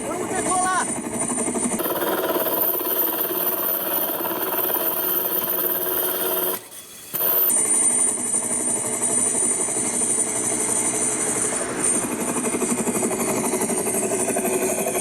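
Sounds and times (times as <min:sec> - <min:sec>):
engine running with high whine: 0:00.0 - 0:15.0.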